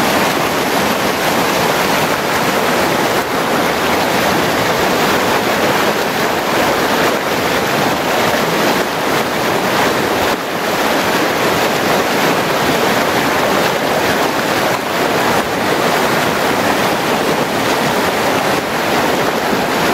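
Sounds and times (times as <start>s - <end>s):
water rushing over rocks: 0.0s - 19.9s.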